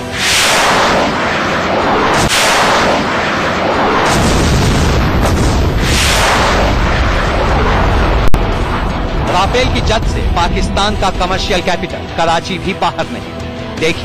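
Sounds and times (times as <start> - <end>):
heavy explosions: 0.0 - 12.5
deep rumble: 0.0 - 12.7.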